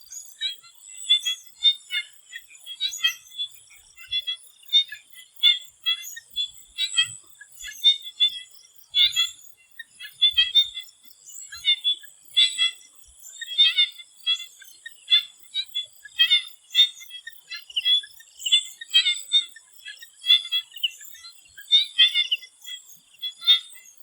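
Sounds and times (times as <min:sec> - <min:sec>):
frogs calling in chorus: 0:00.0 - 0:24.0.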